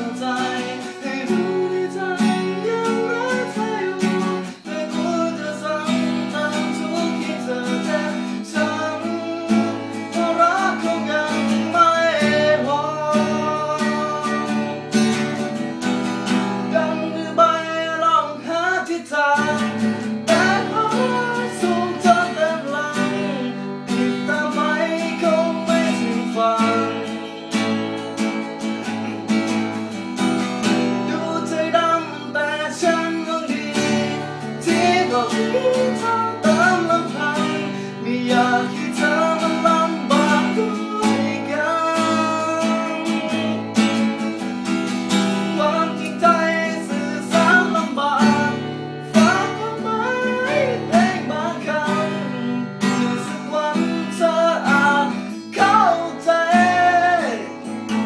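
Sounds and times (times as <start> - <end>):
acoustic guitar strumming: 0.0 - 58.0
person singing: 0.0 - 58.0.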